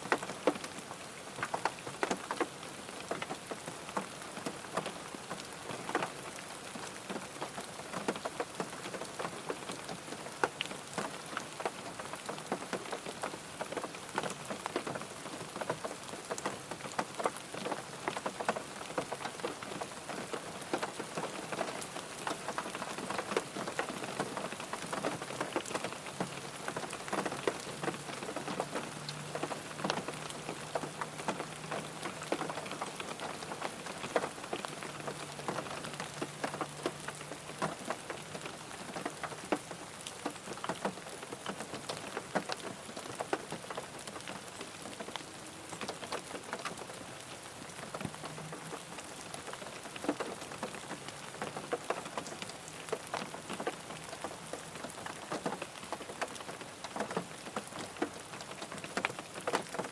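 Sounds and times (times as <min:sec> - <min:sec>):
rain on a car: 0:00.0 - 0:59.9
raindrops tapping: 0:07.1 - 0:59.9.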